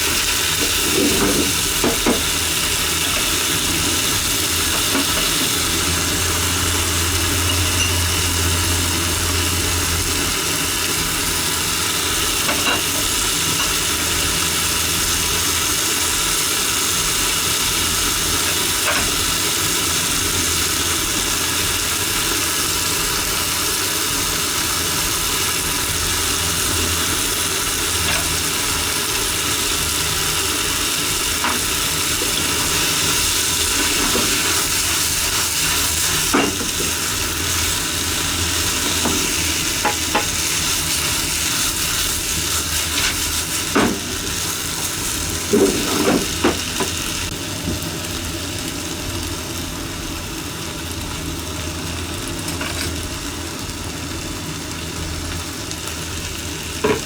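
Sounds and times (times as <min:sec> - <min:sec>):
onions and tofu sizzling in a pan: 0:00.0 - 0:57.0.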